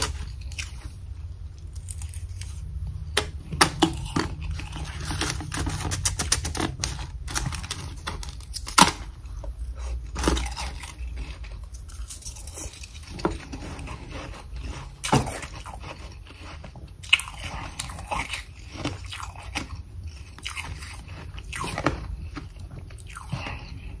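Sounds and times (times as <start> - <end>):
ice being chewed: 0.0 - 24.0.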